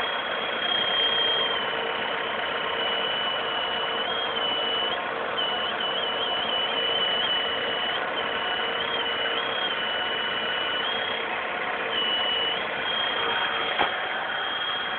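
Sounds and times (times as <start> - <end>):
thin high whistle: 0.0 - 11.2, 11.9 - 14.9
petrol engine idling: 0.0 - 14.9.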